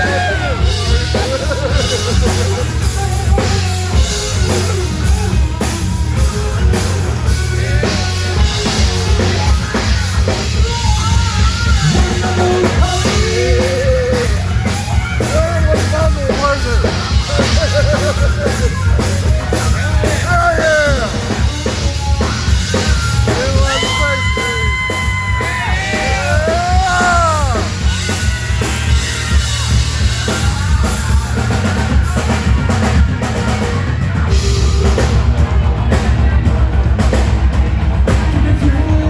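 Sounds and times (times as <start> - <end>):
drum kit beat: 0.0 - 39.0
live rock band playing: 0.0 - 39.0.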